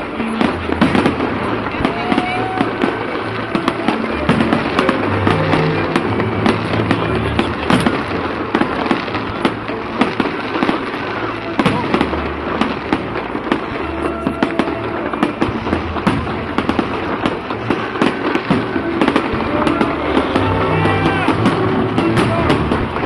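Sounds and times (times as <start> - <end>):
fireworks bangs and crackles: 0.0 - 23.0
music playing: 0.0 - 23.0.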